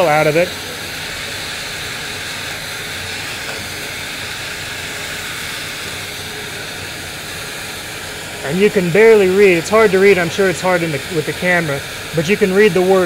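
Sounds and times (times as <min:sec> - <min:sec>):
machinery hiss: 0:00.0 - 0:13.0.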